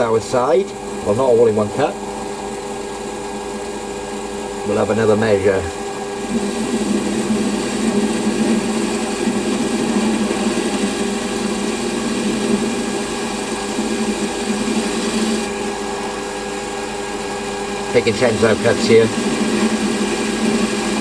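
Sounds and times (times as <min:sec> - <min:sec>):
grinding cutting noise: 0:00.0 - 0:21.0
lathe motor hum: 0:00.0 - 0:21.0.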